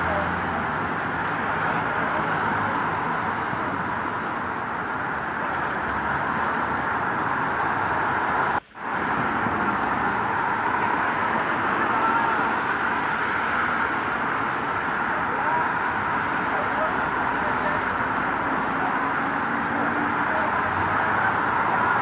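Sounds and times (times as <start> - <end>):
road traffic: 0.0 - 22.0
steady rain: 0.0 - 22.0.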